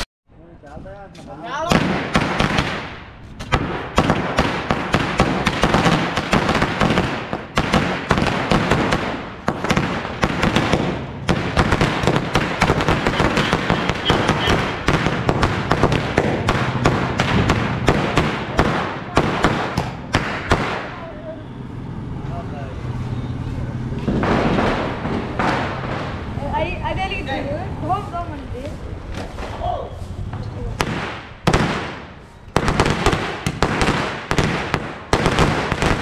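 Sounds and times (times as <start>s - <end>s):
firecrackers banging and popping: 0.6s - 21.2s, 23.8s - 36.0s.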